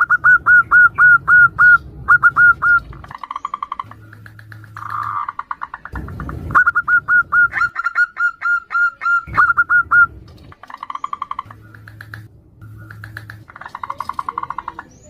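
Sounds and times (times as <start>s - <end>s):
doves calling: 0.0s - 15.0s
trilled bird call: 0.0s - 15.0s.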